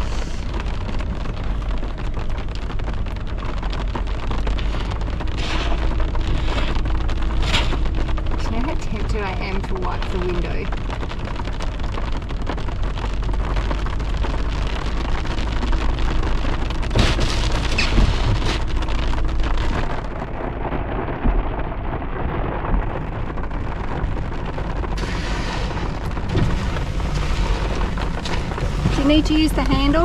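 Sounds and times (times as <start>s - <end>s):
deep rumble: 0.0s - 30.0s
heavy rain drumming on car: 0.0s - 30.0s.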